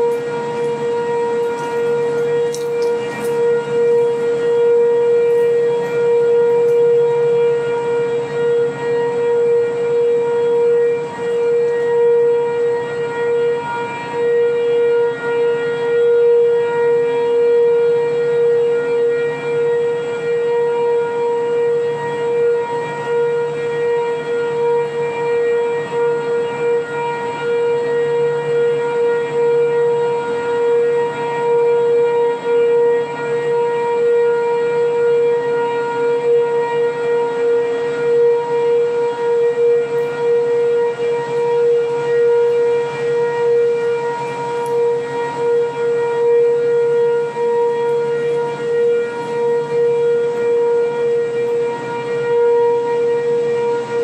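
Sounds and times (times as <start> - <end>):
outdoor warning sirens: 0.0 - 54.0.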